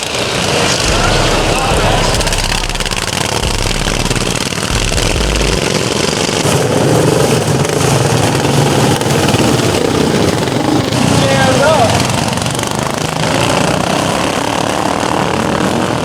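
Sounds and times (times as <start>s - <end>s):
lawn mower engines running: 0.0s - 16.0s.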